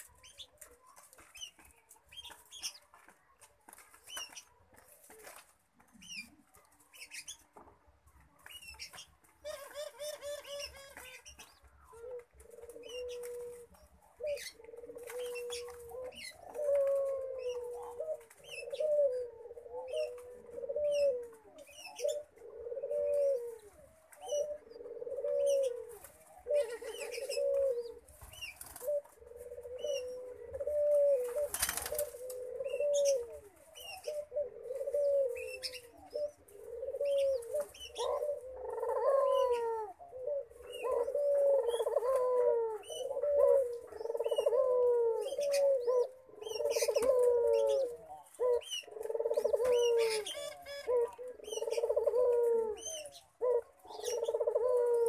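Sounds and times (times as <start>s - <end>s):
rustle: 0.0s - 55.0s
dove low bending call: 8.7s - 55.0s.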